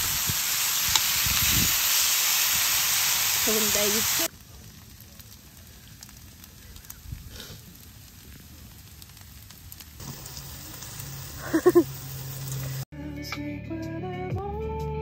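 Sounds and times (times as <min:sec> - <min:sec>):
rice sizzling in a pan: 0:00.0 - 0:12.9.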